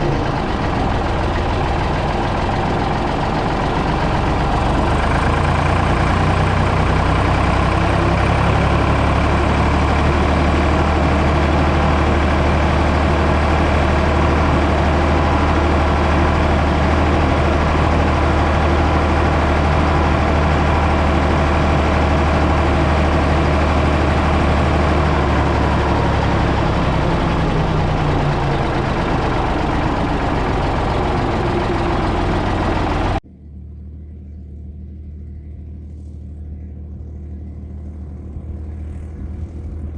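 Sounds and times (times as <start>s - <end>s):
backhoe loader engine running: 0.0s - 39.9s.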